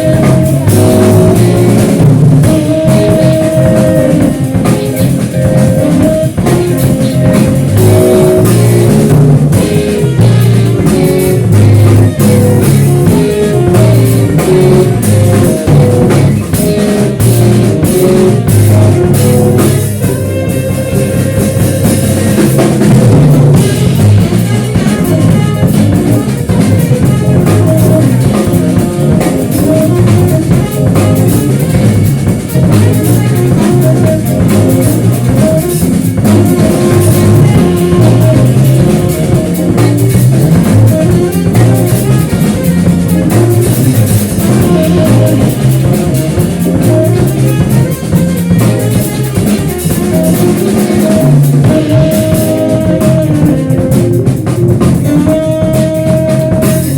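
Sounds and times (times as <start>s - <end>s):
drum kit: 0.0s - 56.9s
electric guitar: 0.0s - 56.9s
rock band playing: 0.0s - 56.9s.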